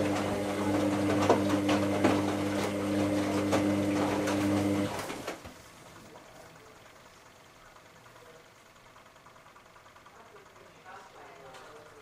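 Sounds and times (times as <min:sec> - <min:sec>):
drain pump humming: 0:00.0 - 0:12.0.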